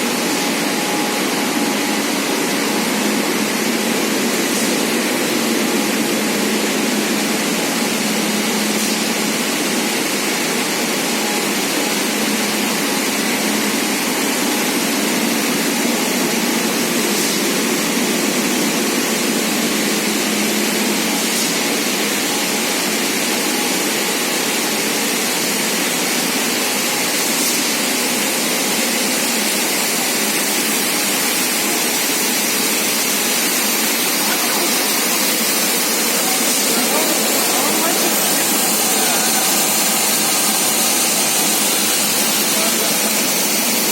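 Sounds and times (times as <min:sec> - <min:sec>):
production line machine whir and hiss: 0:00.0 - 0:43.9.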